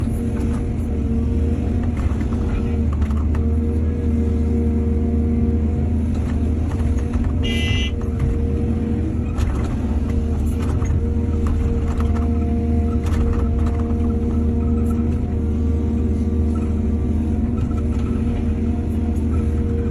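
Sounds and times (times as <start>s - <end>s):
excavator diesel engine droning: 0.0s - 19.9s.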